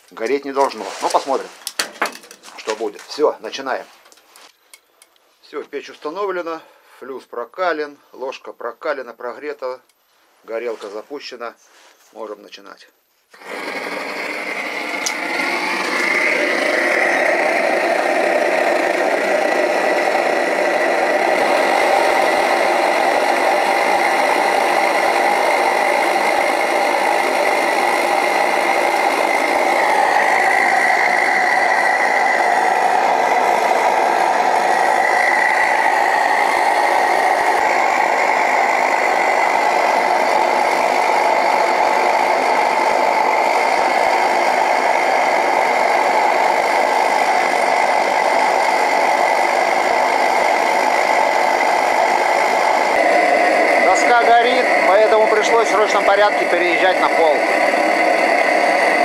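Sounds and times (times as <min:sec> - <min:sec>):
gas burner flame roar: 0:00.0 - 0:05.1, 0:13.3 - 0:59.0.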